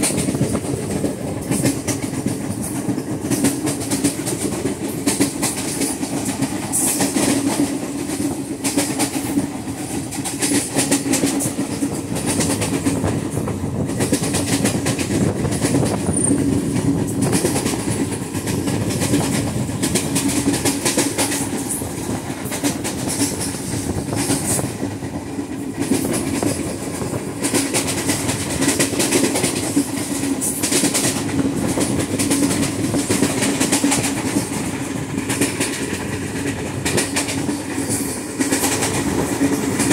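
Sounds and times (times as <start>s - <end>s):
flat wheel pounding rail: 0.0s - 39.9s
train clickety-clack: 0.0s - 39.9s
train wheel rumble: 0.0s - 39.9s.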